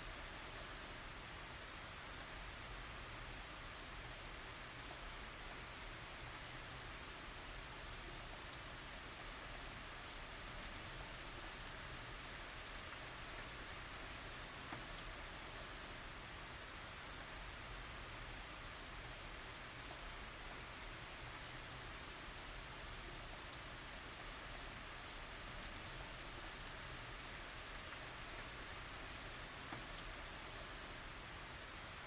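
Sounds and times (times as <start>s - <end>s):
light rain falling: 0.0s - 32.0s.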